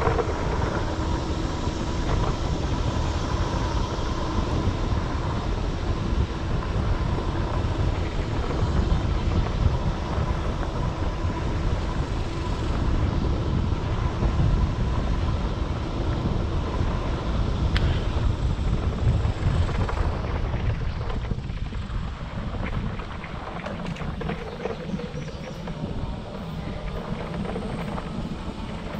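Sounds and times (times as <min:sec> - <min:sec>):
low wind rumble on microphone: 0:00.0 - 0:28.9.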